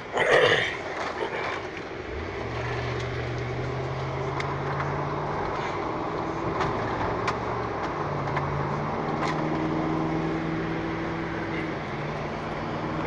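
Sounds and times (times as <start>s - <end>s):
car engine: 0.0s - 13.0s
road noise inside car: 0.0s - 13.0s.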